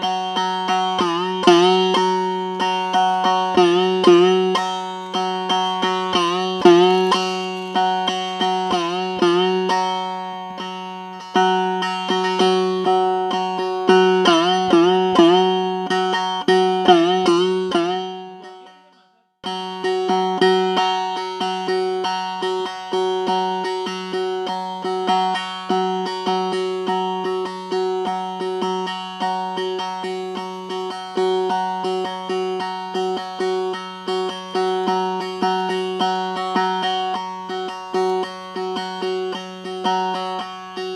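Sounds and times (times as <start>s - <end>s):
plucked string instrument: 0.0s - 40.9s.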